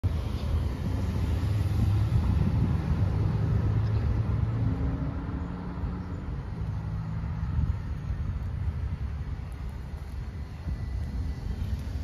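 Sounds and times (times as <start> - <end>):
road traffic rumble: 0.0 - 12.0
faint engine hum: 0.1 - 12.0.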